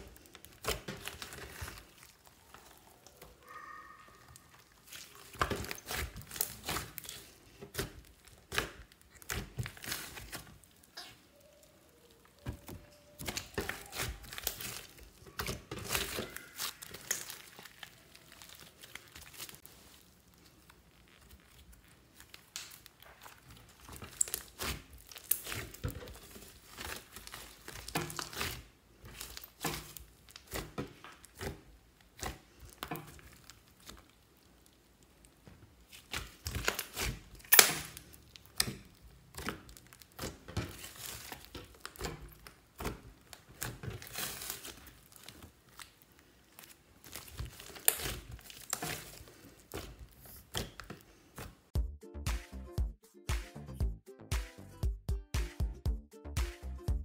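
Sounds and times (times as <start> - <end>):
slime squishing and popping: 0.0 - 52.6.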